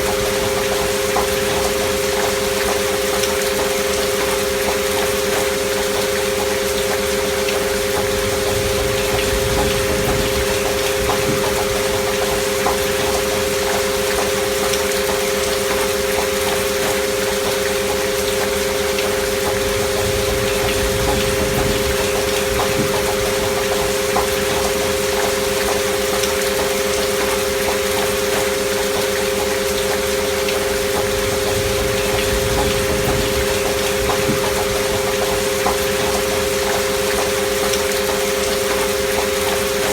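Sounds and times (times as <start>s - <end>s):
pure sine tones drone: 0.0s - 39.9s
steady rain: 0.0s - 39.9s.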